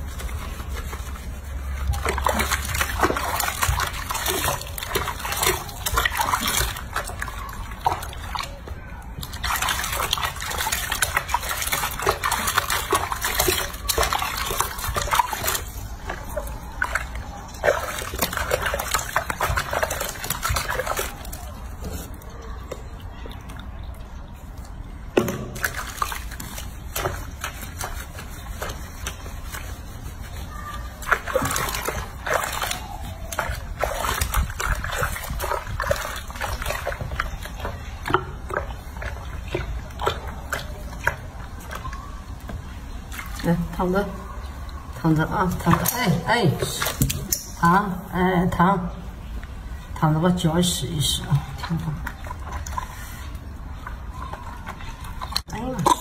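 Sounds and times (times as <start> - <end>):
water sloshing in a washbasin: 0.0 - 56.0.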